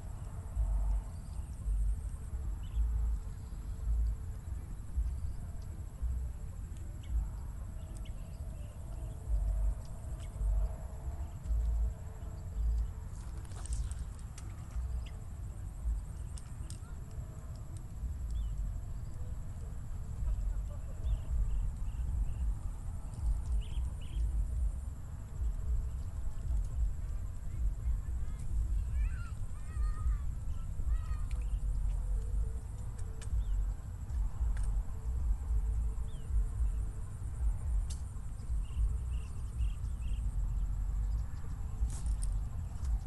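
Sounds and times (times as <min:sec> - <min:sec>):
wind gusting on microphone: 0:00.0 - 0:43.0.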